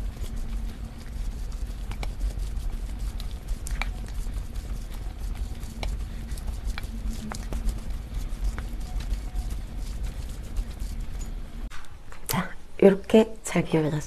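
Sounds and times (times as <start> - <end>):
spoon stirring wet food: 0.0 - 11.5.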